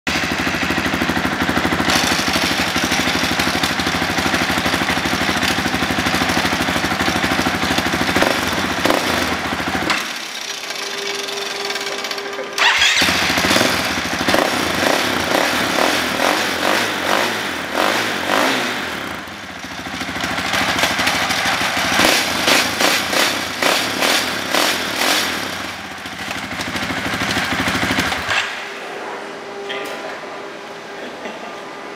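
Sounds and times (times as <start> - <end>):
dirt bike engine running: 0.1 - 28.6.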